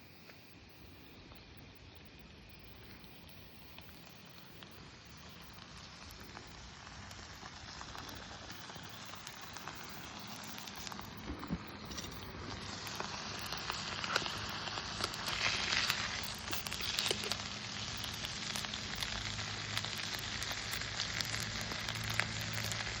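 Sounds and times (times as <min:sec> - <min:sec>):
campfire pops and crackles: 0:00.0 - 0:23.0
food sizzling: 0:00.0 - 0:23.0.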